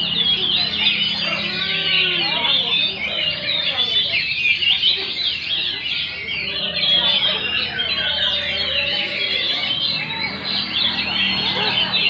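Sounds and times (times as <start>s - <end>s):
songbirds chorus chirping: 0.0s - 12.0s.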